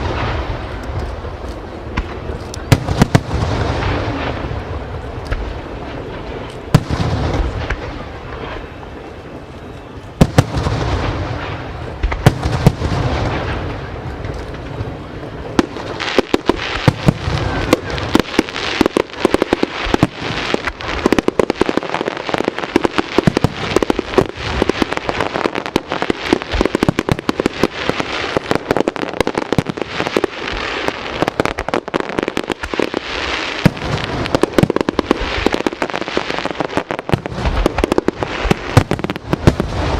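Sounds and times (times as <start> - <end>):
rapid firework bangs and cracks: 0.0 - 9.0, 10.2 - 39.9.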